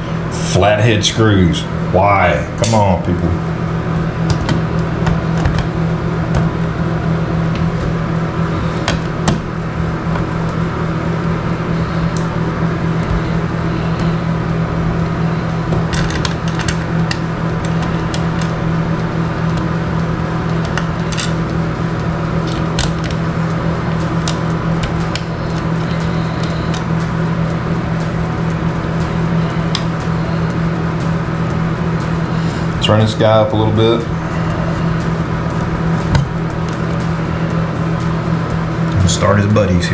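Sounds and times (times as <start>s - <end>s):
exhaust fan humming: 0.0s - 39.9s.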